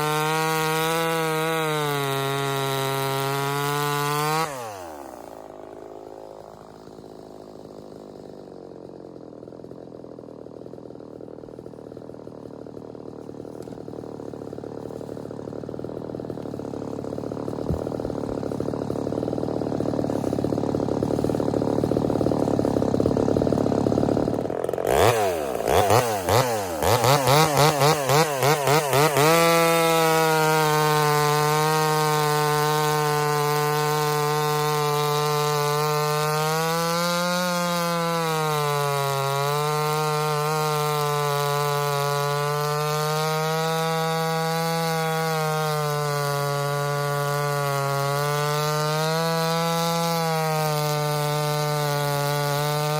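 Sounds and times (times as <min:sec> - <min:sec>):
chainsaw revving: 0:00.0 - 0:52.9.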